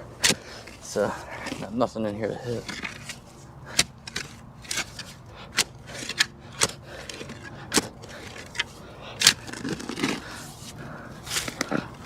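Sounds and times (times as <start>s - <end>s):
shovel scraping into dirt: 0.0s - 1.8s, 2.4s - 11.9s.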